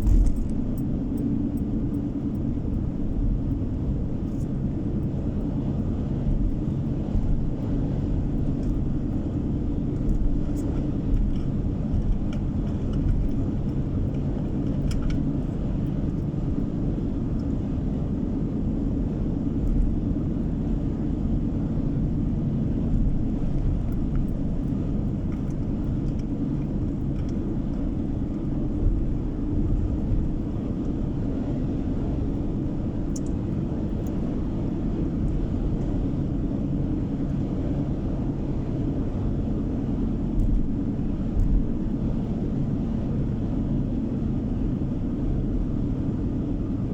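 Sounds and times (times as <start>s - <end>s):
road and engine rumble: 0.0s - 46.9s.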